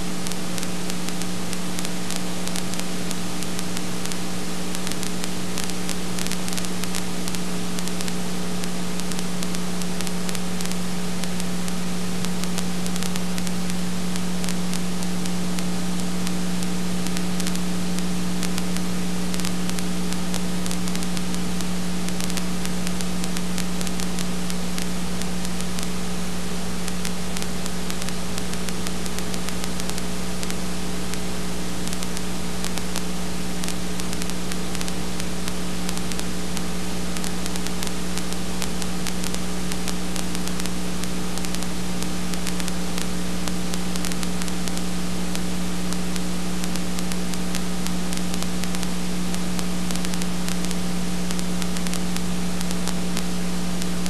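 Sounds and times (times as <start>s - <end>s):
faint crackling clicks: 0.0s - 54.0s
steady hiss: 0.0s - 54.0s.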